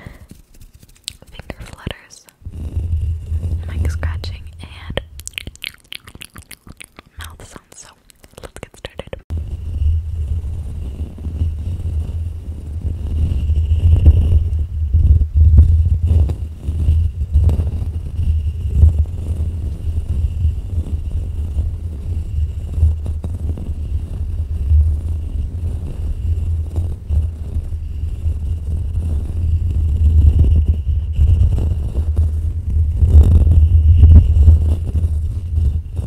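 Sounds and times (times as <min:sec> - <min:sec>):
fingers rubbing a microphone: 0:00.0 - 0:09.8, 0:12.8 - 0:36.0.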